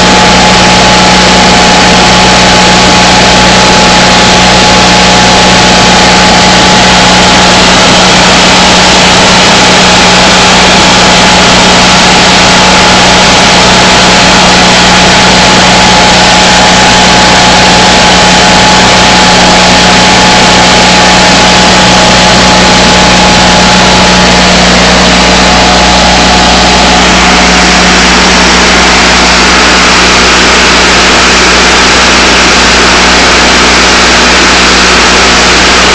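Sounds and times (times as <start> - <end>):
generator engine running: 0.0 - 35.9.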